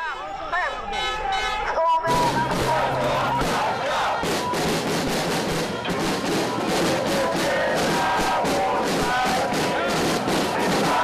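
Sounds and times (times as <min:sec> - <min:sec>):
crowd chanting and shouting: 0:00.0 - 0:11.0
snare drums beating: 0:02.1 - 0:11.0.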